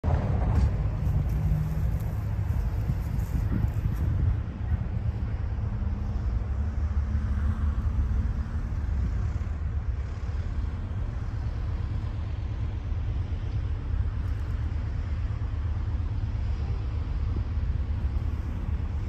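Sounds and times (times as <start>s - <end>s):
distant diesel locomotive engine rumbling: 0.0s - 19.0s.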